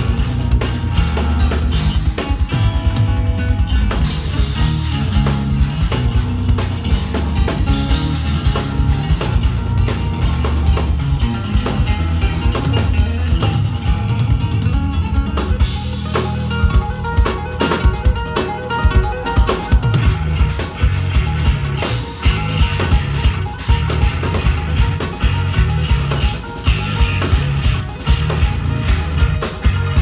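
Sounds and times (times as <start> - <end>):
drum kit playing: 0.0 - 30.0
electric guitar: 0.0 - 30.0.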